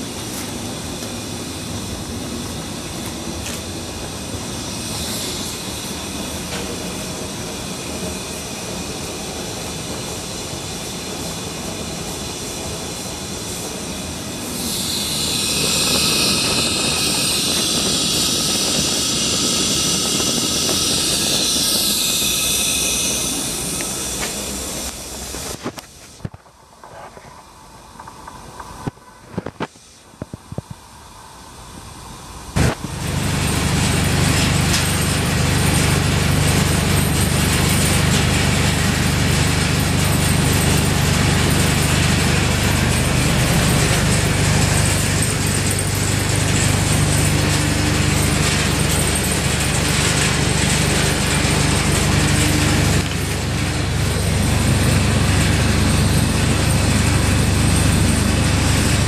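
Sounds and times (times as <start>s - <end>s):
gas burner roaring: 0.0s - 59.0s.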